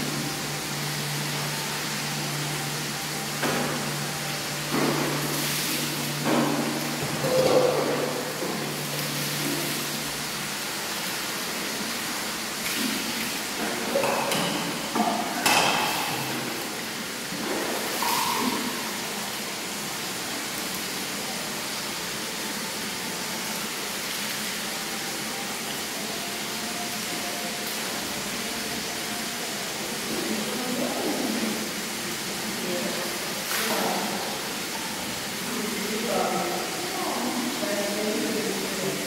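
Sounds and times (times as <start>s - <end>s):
water splashing: 0.0s - 39.0s.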